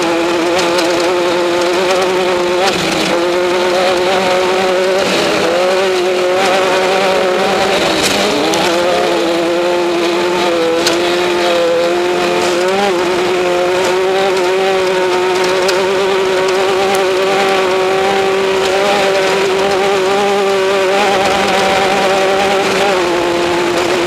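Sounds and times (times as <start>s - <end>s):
race vehicle engine running hard: 0.0s - 24.0s
faint ticks: 0.1s - 24.0s.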